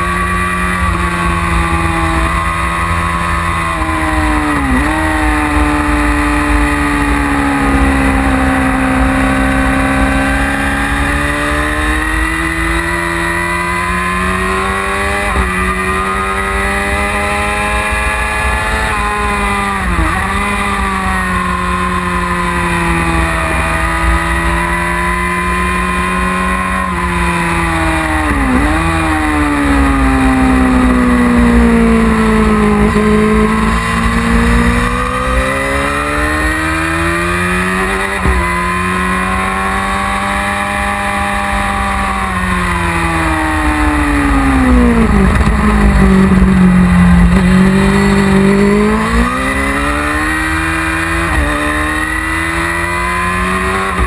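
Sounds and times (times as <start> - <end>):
motorcycle engine racing: 0.0 - 54.0.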